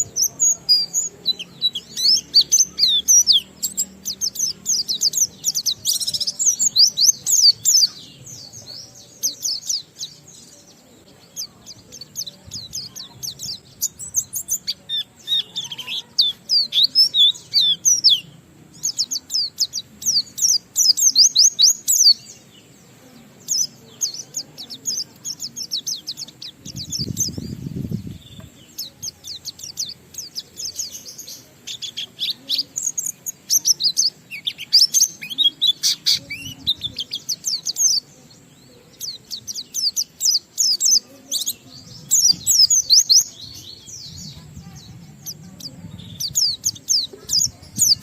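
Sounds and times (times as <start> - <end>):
bird chirping and trilling: 0.0 - 22.7, 23.4 - 48.0.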